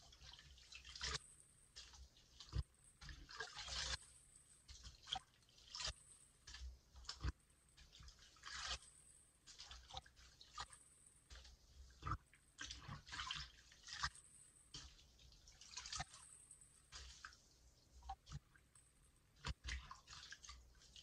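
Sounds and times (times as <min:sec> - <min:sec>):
soapy sponges squelching: 0:00.0 - 0:21.0
water dripping and sloshing: 0:00.0 - 0:21.0.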